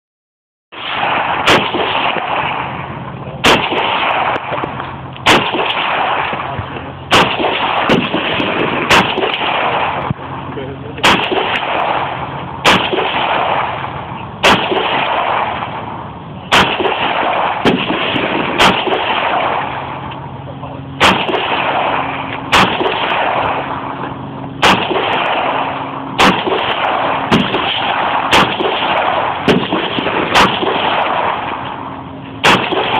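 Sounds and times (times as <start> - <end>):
rifle gunshots with echo: 0.7 - 32.9.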